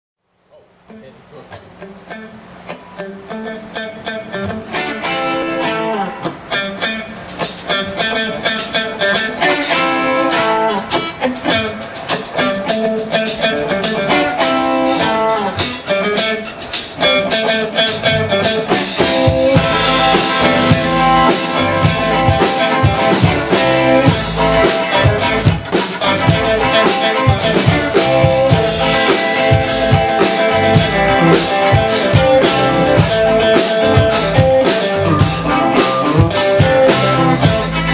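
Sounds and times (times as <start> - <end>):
electric guitars playing blues: 0.9 - 37.9
bass and drums: 6.4 - 37.9.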